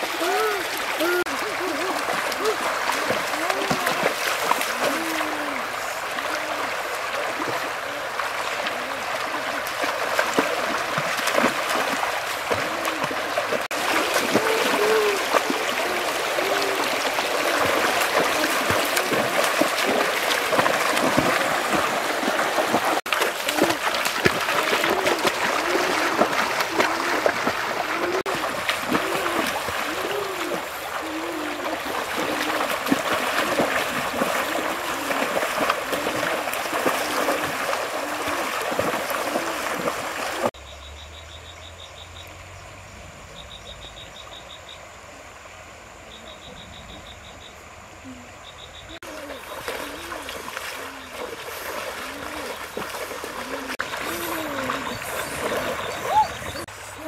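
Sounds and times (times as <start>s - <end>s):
feet splashing in water: 0.0s - 40.6s, 49.0s - 57.0s
river gurgling over stones: 0.0s - 40.6s, 49.0s - 57.0s.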